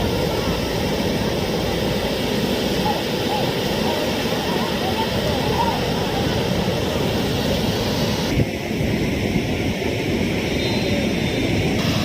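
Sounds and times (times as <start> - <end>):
water rushing over spillway: 0.0 - 12.0.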